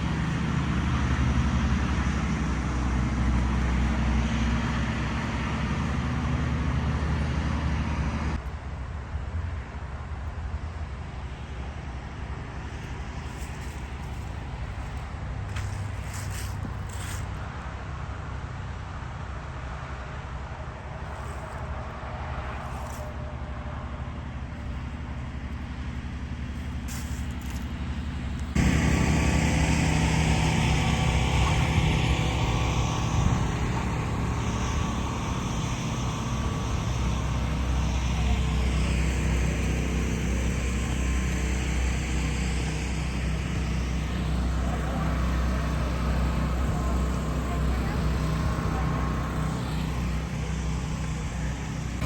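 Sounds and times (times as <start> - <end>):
heavy engine drone: 0.0 - 52.0
road and engine noise: 0.0 - 52.0.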